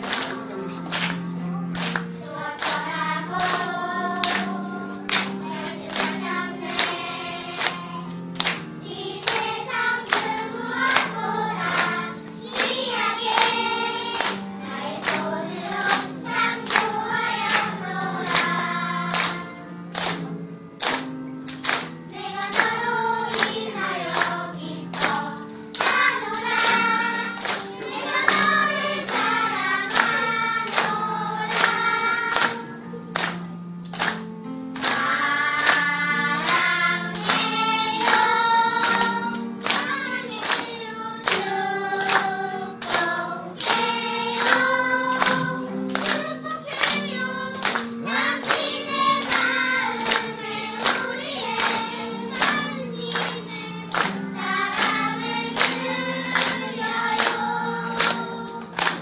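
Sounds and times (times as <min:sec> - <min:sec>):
children's choir singing: 0:00.0 - 0:59.0
hands clapping steady beat: 0:00.0 - 0:59.0.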